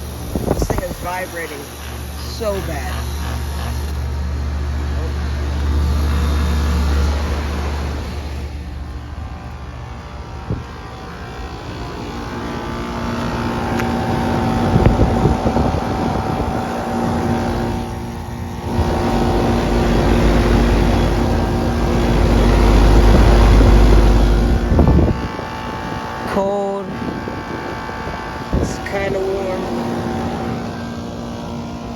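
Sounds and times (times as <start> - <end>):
air conditioner compressor hum: 0.0 - 31.9
fan rush of air: 0.0 - 31.9.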